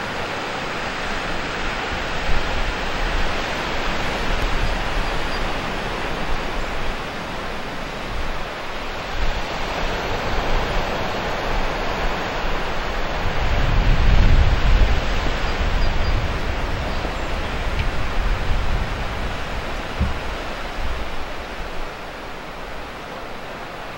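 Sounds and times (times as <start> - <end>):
ocean surf: 0.0 - 23.9.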